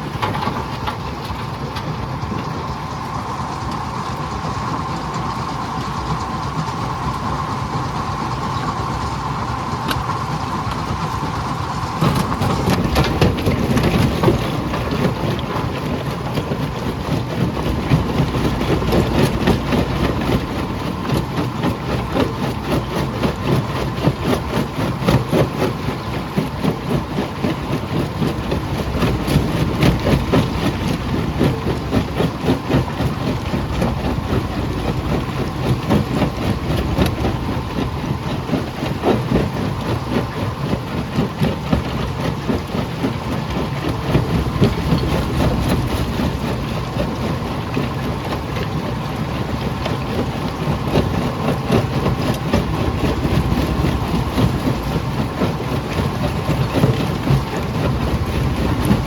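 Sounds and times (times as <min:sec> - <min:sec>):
jaw crusher humming: 0:00.0 - 0:59.0.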